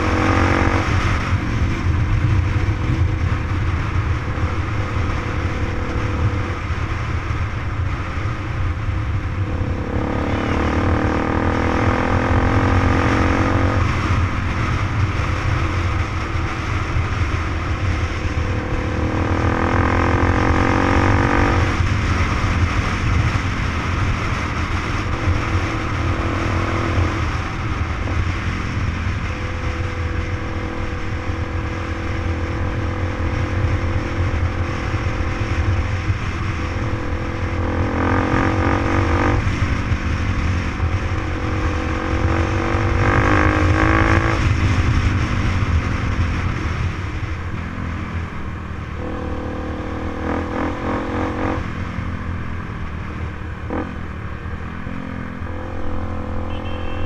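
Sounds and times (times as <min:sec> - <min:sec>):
wind rumble on microphone: 0:00.0 - 0:56.6
motorbike engine running: 0:00.0 - 0:57.0.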